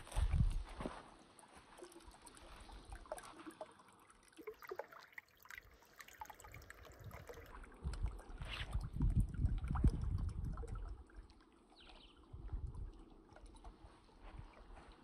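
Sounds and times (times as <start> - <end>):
stream trickling over rocks: 0.0 - 15.0.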